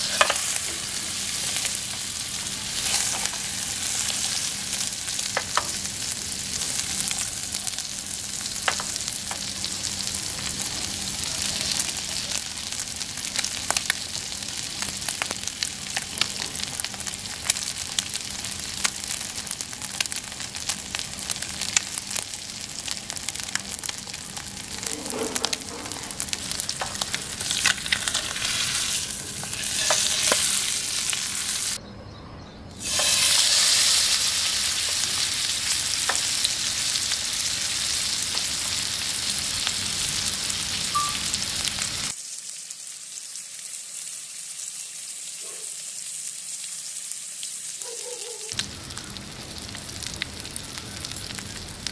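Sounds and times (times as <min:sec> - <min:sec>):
fish sizzling in hot oil: 0:00.0 - 0:31.8, 0:32.8 - 0:47.8.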